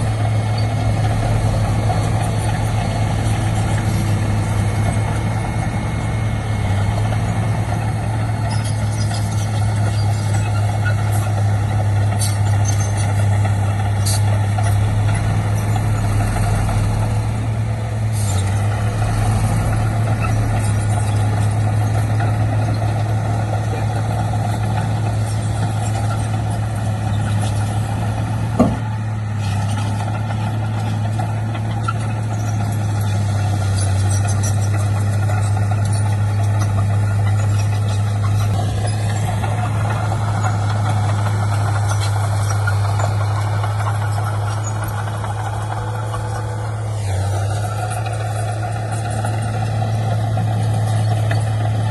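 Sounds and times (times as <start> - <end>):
heavy diesel machinery running: 0.0 - 51.9.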